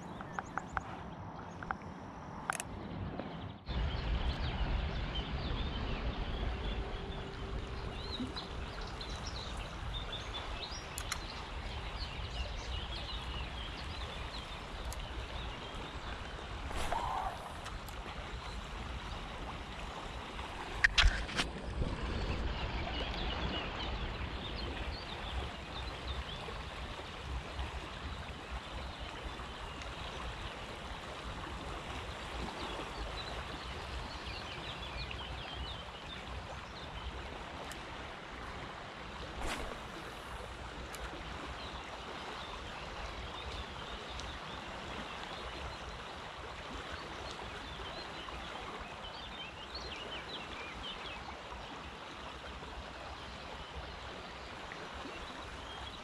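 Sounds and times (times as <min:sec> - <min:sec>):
wind rumble on microphone: 0:00.0 - 0:46.9
river water rushing: 0:03.7 - 0:56.0.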